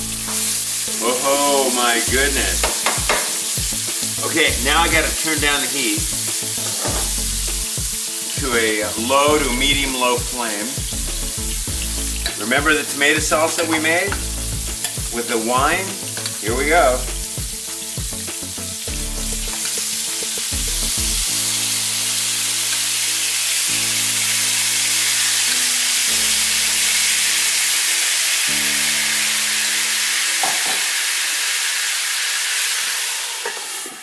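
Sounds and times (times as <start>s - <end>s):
hissing steam: 0.0s - 18.7s, 19.5s - 34.0s
frying sizzle: 0.0s - 34.0s.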